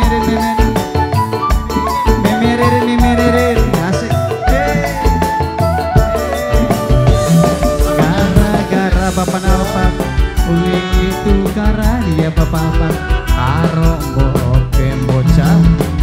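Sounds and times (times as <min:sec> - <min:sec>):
gliding melodic lead line: 0:00.0 - 0:16.0
steady drum beat: 0:00.0 - 0:16.0.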